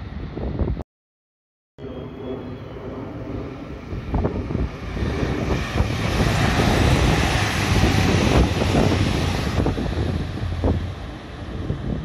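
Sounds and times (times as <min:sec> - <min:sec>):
train passing on rails: 0:01.8 - 0:12.0.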